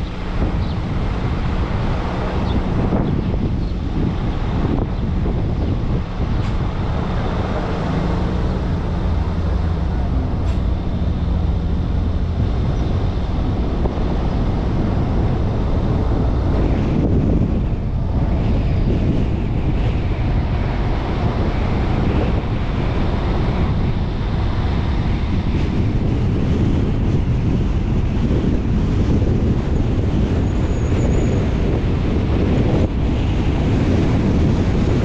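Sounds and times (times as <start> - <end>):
road noise rumble: 0.0 - 35.0
wind buffeting microphone: 0.0 - 35.0.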